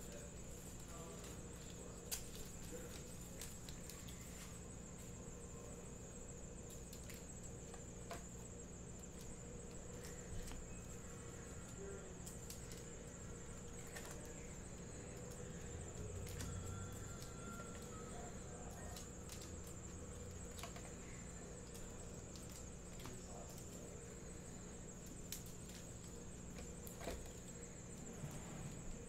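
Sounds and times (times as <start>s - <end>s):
foil packs clicking and crinkling: 0.0s - 5.2s, 8.9s - 28.0s
steady high-pitched whine: 0.0s - 29.0s.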